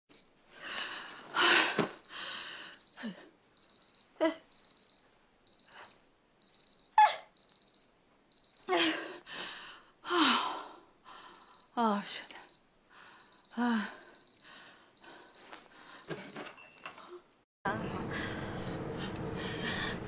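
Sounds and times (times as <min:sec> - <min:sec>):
electronic alarm beeping: 0:00.1 - 0:01.2, 0:01.8 - 0:16.7.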